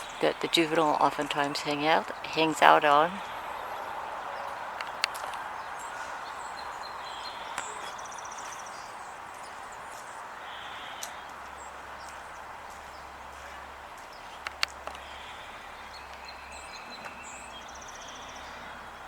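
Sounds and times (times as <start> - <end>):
songbird chirps and trill: 0.0 - 19.0.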